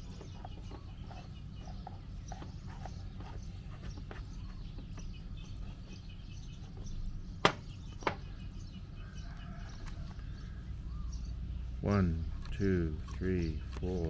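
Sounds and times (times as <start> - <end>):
faint bird chirps: 0.0 - 14.0
low outdoor rumble: 0.0 - 14.0.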